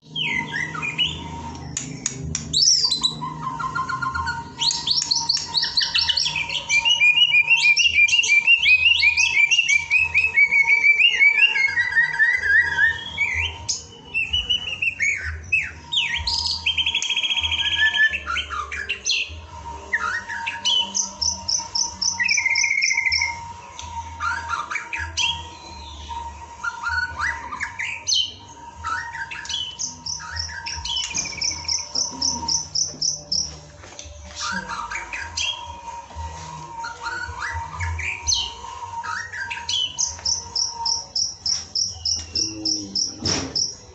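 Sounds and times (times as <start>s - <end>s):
bird singing whistles and trills: 0.0s - 43.9s.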